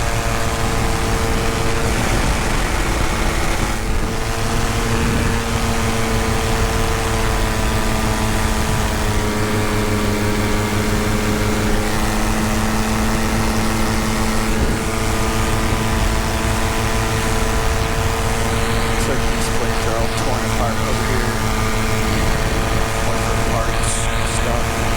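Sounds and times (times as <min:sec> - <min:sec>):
paramotor engine droning: 0:00.0 - 0:24.9.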